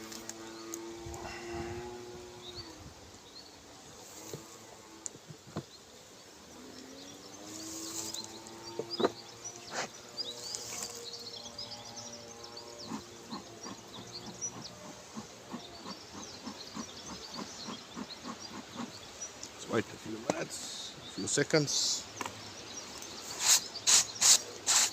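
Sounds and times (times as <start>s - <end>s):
honeybees buzzing: 0.0s - 24.9s.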